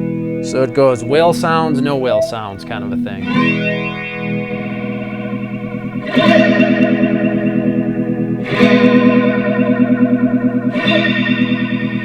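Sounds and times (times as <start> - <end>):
flanged guitar chords: 0.0 - 12.0.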